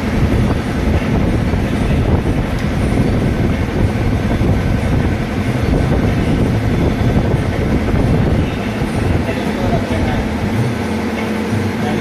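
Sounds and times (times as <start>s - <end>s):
lathe rumbling: 0.0s - 12.0s.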